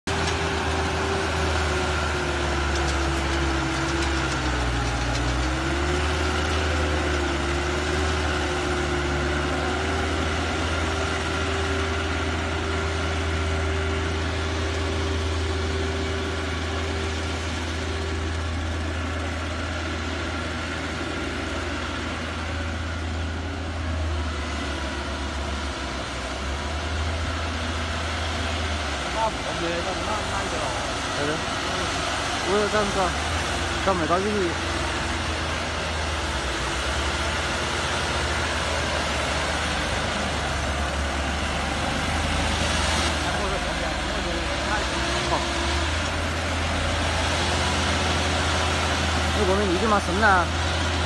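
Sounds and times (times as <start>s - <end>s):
diesel tractor engine running: 0.0s - 51.0s.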